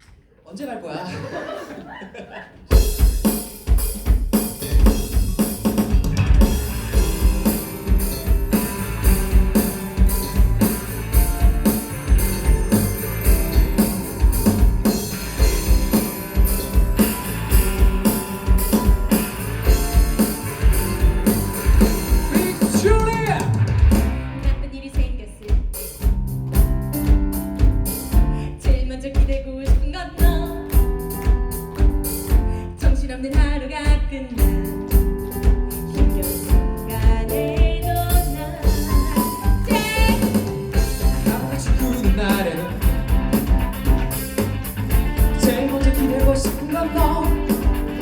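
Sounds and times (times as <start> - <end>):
live band playing upbeat instrumental: 2.6 - 24.8, 25.4 - 33.1, 33.9 - 48.0.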